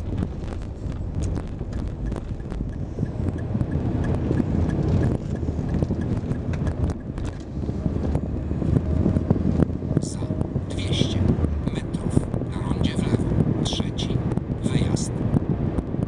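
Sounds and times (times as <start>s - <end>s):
road and engine rumble: 0.0s - 16.0s
turn indicator ticking: 0.0s - 16.0s.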